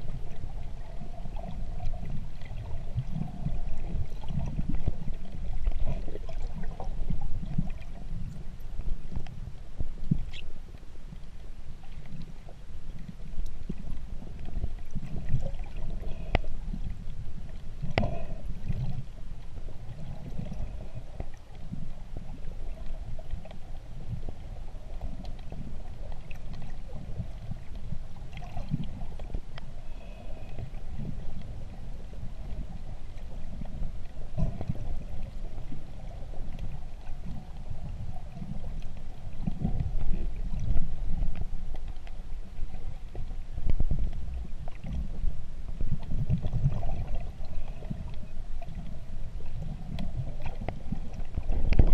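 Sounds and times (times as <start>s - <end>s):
underwater rumble of water: 0.0s - 51.9s.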